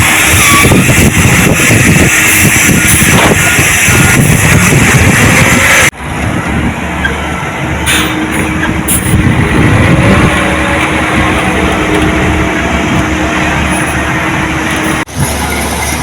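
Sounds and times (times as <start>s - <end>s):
diesel earthmoving equipment running: 0.0s - 16.0s.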